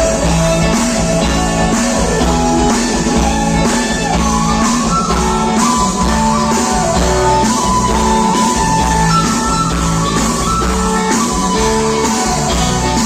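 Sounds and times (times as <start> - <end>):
bass notes: 0.0 - 13.0
drum kit: 0.0 - 13.0
guitar melody: 0.0 - 13.0.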